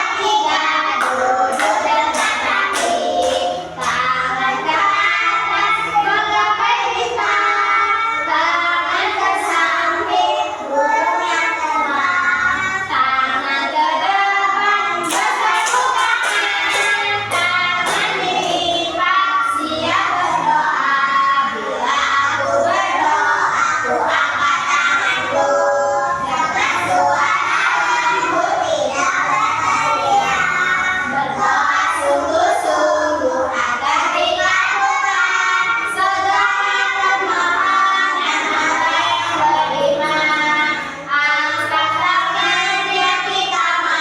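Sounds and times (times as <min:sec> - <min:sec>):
woman singing: 0:00.0 - 0:29.3, 0:29.9 - 0:44.0
children singing together: 0:00.0 - 0:44.0.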